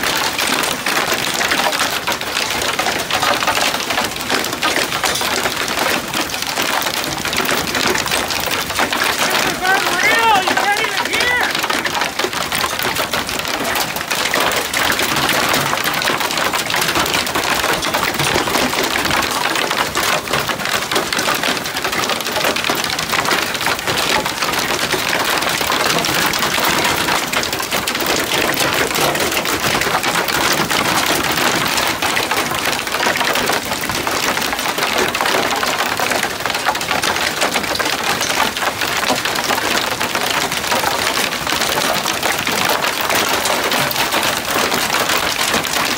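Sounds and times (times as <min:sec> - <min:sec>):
hail pelting a wooden deck: 0:00.0 - 0:45.9.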